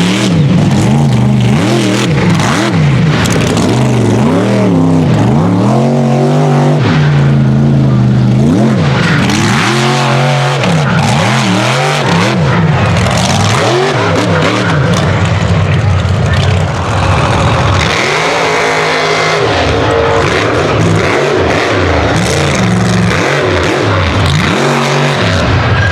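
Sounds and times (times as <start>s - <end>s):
truck engine revving: 0.0s - 25.9s.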